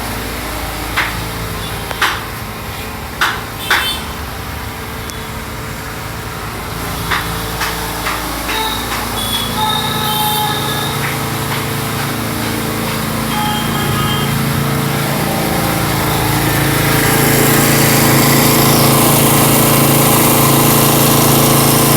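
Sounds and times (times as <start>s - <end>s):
generator engine running: 0.0s - 21.9s.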